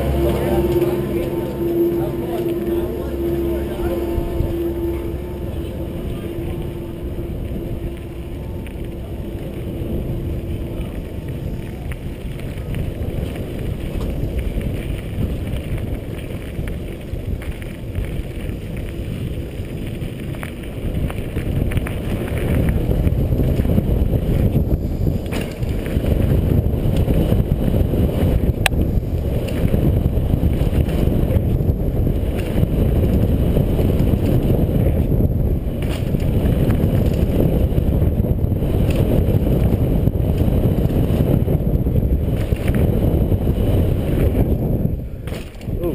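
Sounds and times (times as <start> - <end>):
bike tyres rumbling on gravel: 0.0 - 45.9
wind buffeting microphone: 0.0 - 45.9.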